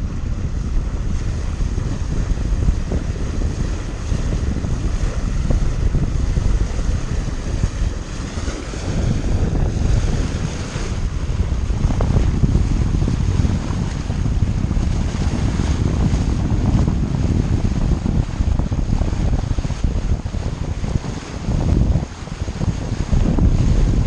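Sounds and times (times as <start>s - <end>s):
rush of sea water: 0.0s - 24.0s
wind buffeting microphone: 0.0s - 24.0s.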